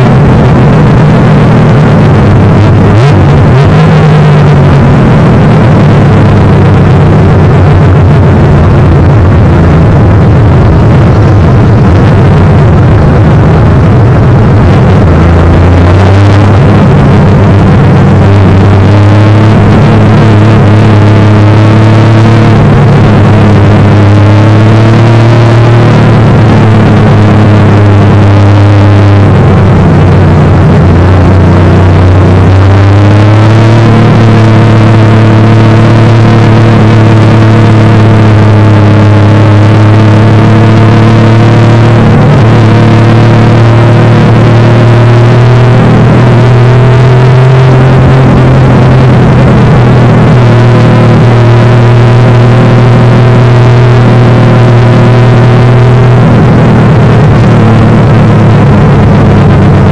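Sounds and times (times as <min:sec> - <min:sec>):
car engine running at low revs: 0:00.0 - 0:59.9.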